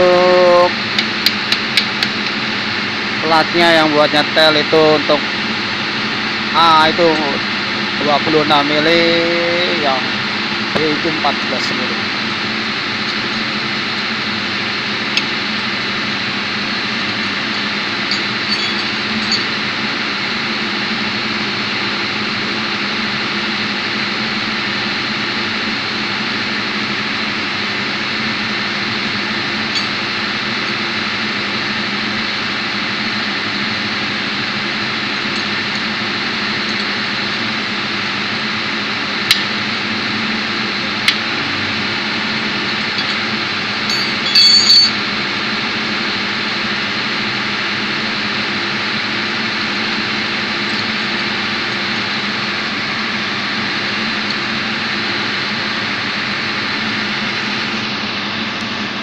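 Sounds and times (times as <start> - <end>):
engine-room machinery drone: 0.0 - 59.0.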